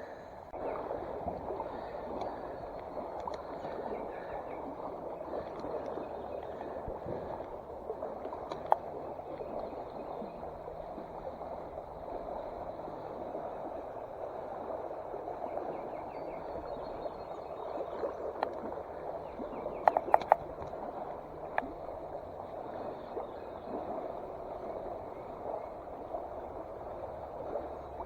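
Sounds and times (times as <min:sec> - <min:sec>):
mountain stream running: 0:00.0 - 0:28.0.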